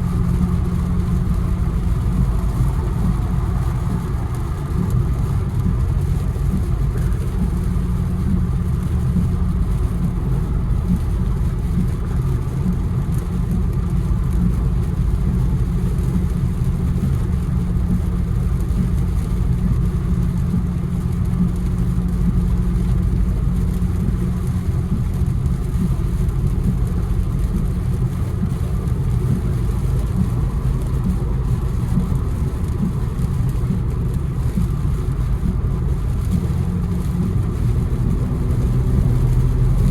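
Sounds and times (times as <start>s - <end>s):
engine and tyre drone inside car: 0.0s - 39.9s.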